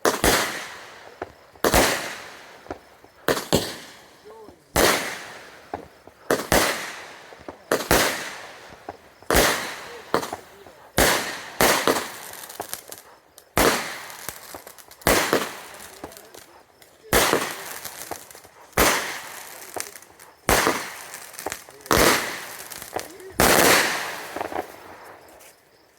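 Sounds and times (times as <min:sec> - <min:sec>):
fireworks bangs: 0:00.0 - 0:25.7.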